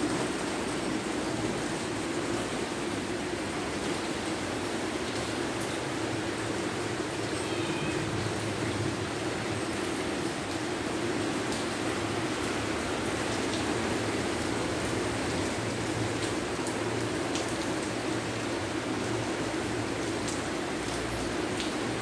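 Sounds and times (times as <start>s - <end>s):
heavy rain on roof and foliage: 0.0s - 22.0s.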